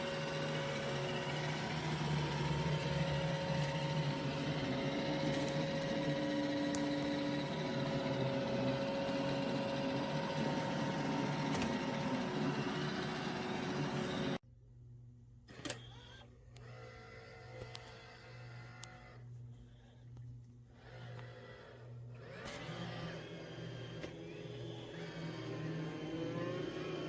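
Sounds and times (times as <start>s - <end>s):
robot vacuum whirring: 0.0s - 14.4s, 15.5s - 20.0s, 20.8s - 27.0s.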